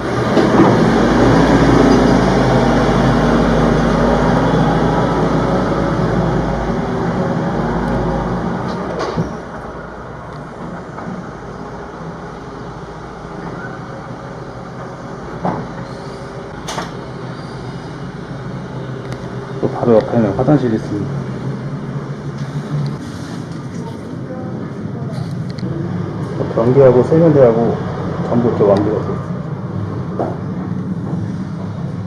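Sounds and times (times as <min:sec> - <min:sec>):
loud engine-like rumble: 0:00.0 - 0:32.0.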